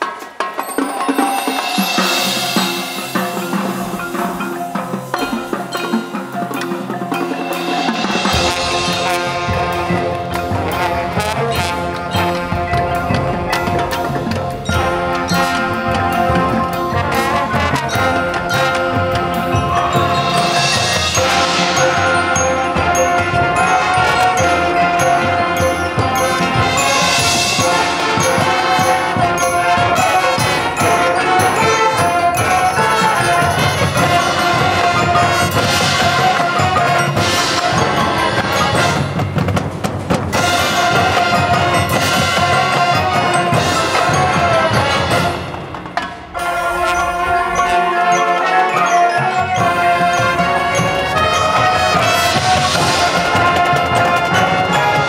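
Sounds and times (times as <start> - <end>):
drums and mallet percussion: 0.0 - 55.0
marching band playing: 0.0 - 55.0
brass chords: 1.7 - 55.0.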